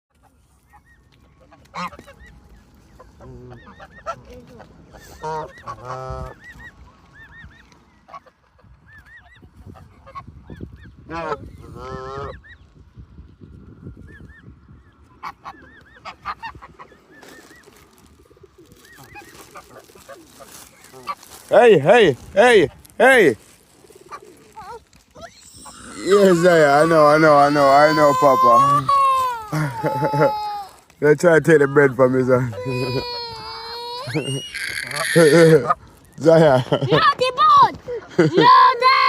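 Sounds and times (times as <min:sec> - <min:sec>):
flock of birds calling: 0:00.2 - 0:12.9, 0:13.9 - 0:39.0.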